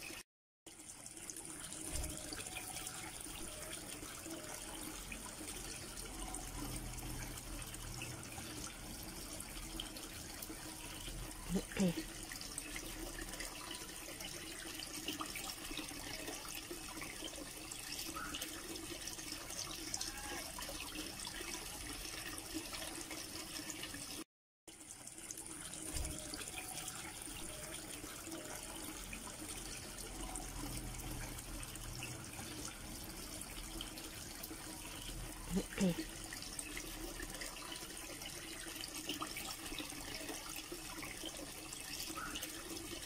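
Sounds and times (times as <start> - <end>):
aquarium water trickling: 0.0 - 43.0.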